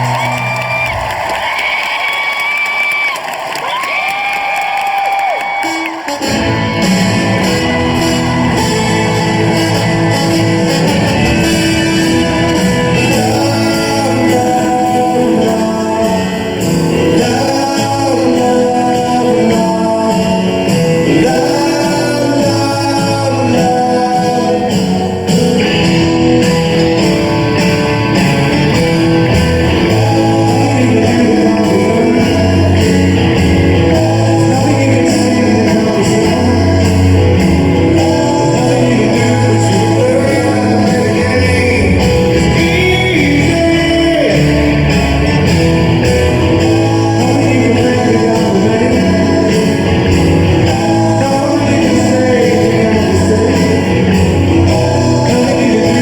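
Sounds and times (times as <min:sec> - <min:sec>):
live rock band with singing: 0:00.0 - 0:56.0.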